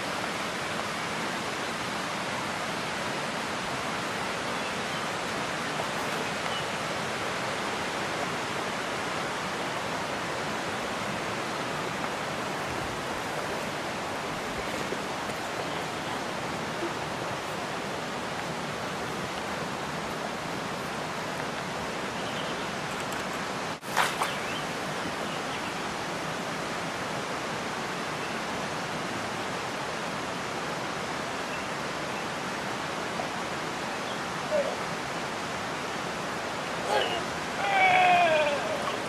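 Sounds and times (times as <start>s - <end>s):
stream water flowing: 0.0s - 39.0s.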